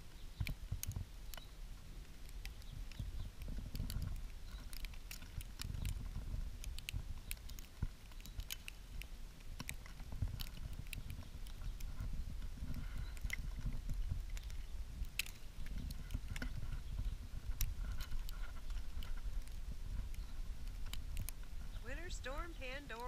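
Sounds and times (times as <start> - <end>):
light ticks and crackles: 0.0 - 23.0
wind buffeting microphone: 0.0 - 23.0.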